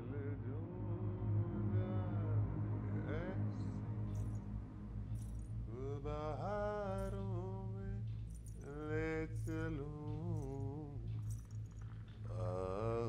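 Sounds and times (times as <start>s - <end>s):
person singing wordless chant: 0.0s - 4.2s, 5.7s - 11.4s, 12.2s - 13.0s
steady low hum: 0.0s - 13.0s.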